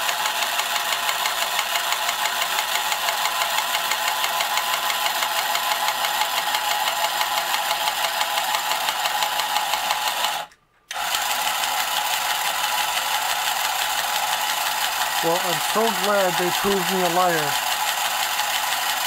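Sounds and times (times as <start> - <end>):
toy helicopter motor whirring: 0.0 - 19.0.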